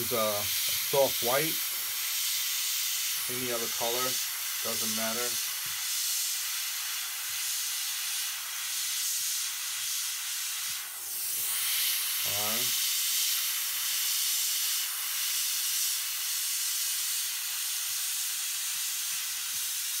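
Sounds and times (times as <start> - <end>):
airbrush hissing air: 0.0 - 20.0.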